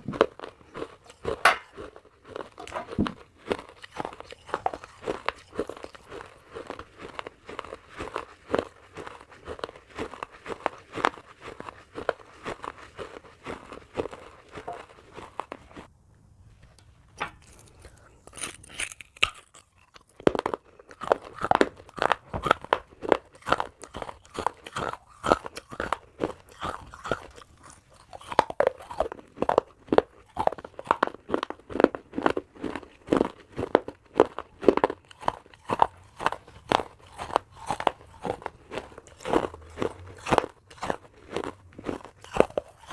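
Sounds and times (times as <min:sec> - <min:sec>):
chewing crunchy clay pieces: 0:00.0 - 0:15.9, 0:17.2 - 0:42.9.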